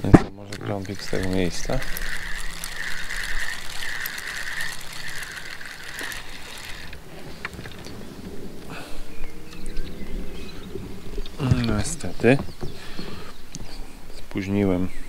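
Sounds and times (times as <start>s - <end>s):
fishing reel gears whirring: 0.0s - 13.4s.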